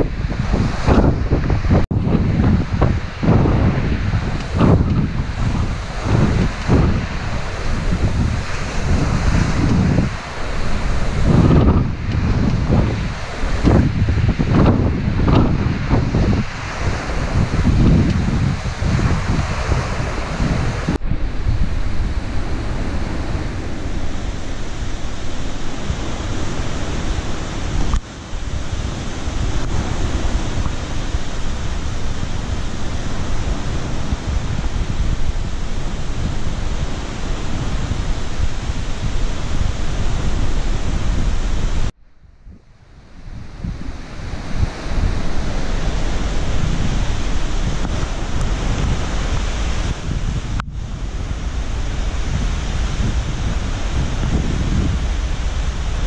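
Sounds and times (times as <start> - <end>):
storm wind buffeting microphone: 0.0 - 56.0.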